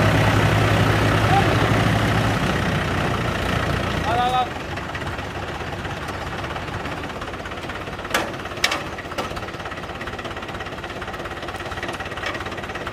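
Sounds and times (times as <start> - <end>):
tractor diesel engine chugging: 0.0 - 12.9.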